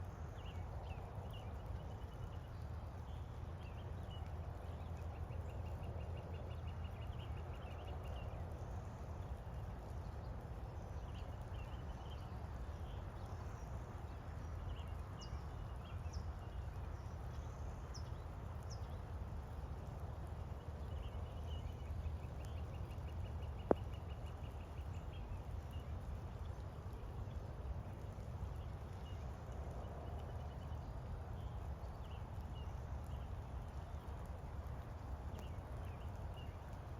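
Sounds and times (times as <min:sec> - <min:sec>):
rain rumble: 0:00.0 - 0:36.9.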